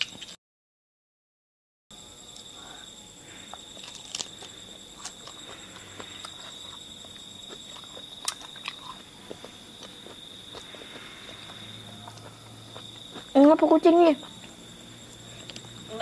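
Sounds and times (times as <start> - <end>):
high-pitched insect trill: 1.9 - 16.0.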